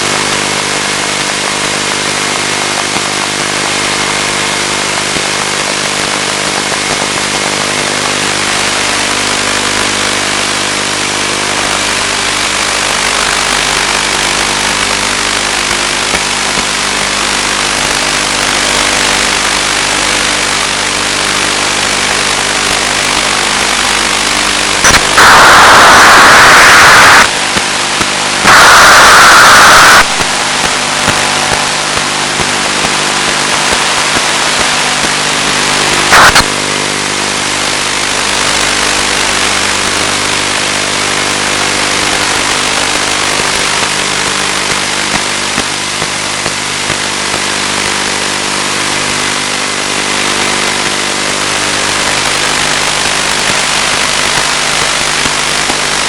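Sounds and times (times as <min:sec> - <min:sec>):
electric motor and propeller running: 0:00.0 - 0:56.0
loud bursts of static: 0:00.0 - 0:56.0
radio static hiss: 0:00.0 - 0:56.0
short crackle: 0:04.2 - 0:56.0.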